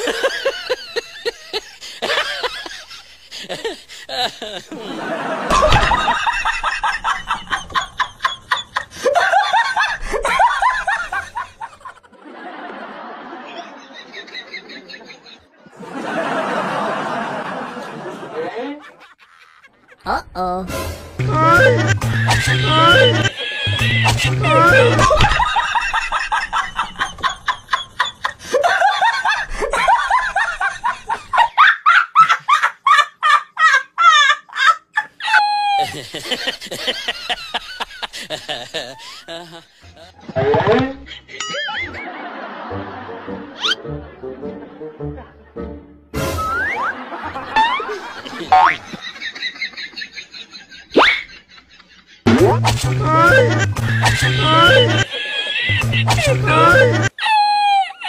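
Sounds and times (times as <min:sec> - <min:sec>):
person laughing hard: 0:00.0 - 0:15.4, 0:21.4 - 0:43.8, 0:46.4 - 0:52.1, 0:52.8 - 0:58.0
background noise: 0:00.0 - 0:58.0.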